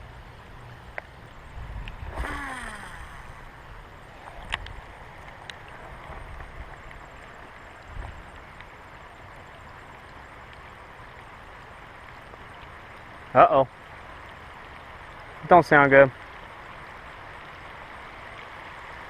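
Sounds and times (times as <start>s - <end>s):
rain hissing: 0.0s - 19.0s.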